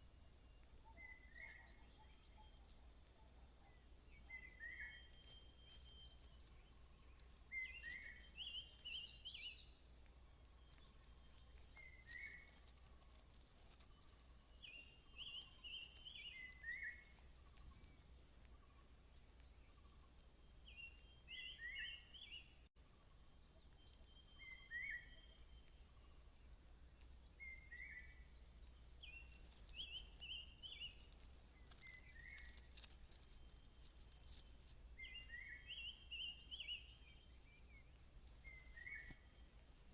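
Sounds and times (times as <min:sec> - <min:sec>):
bird song phrase: 0:00.0 - 0:09.8, 0:10.4 - 0:39.9
thin high bird chirps: 0:00.0 - 0:39.9.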